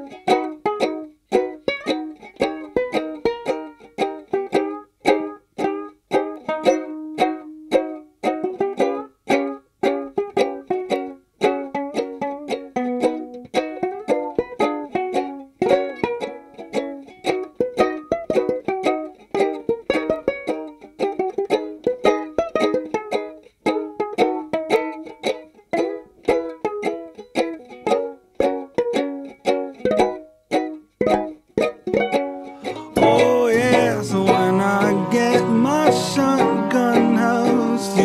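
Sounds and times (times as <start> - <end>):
fast picked acoustic string instrument: 0.0 - 38.0.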